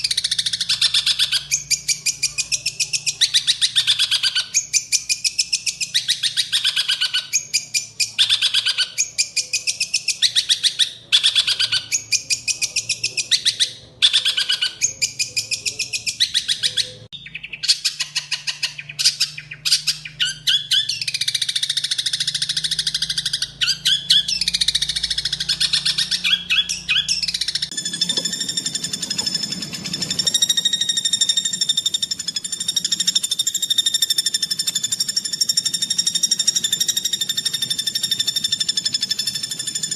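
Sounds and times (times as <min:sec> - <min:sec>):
bird singing harsh rapid phrases: 0:00.0 - 0:39.9
buzzy bird trill: 0:00.0 - 0:39.9.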